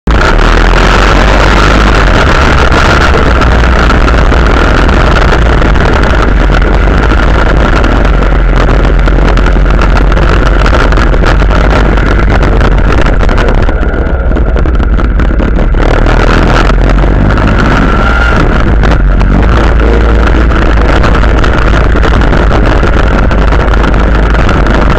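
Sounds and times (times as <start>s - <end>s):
wind rumble on microphone: 0.0s - 24.9s
quad bike engine running: 0.1s - 24.9s.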